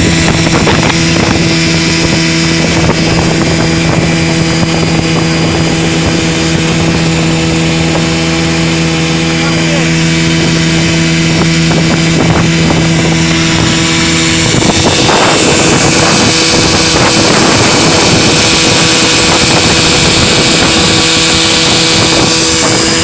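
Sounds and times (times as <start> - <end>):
outboard motor running: 0.0 - 23.0
rushing water and wind: 0.0 - 23.0.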